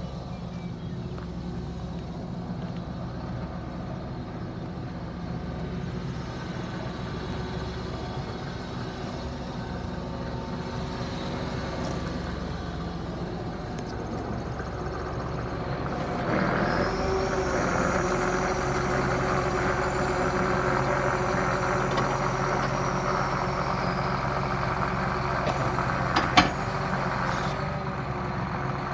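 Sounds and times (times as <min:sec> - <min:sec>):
tractor engine idling: 0:00.0 - 0:28.9.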